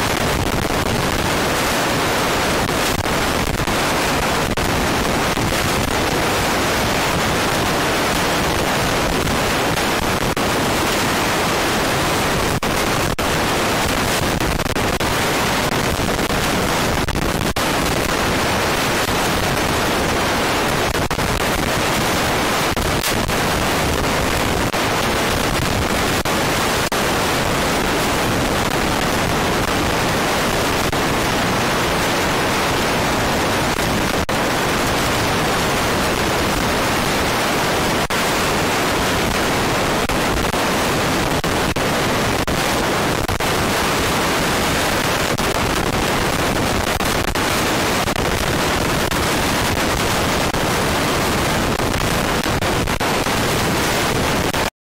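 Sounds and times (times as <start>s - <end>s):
steady hiss-like rushing noise: 0.0s - 54.7s.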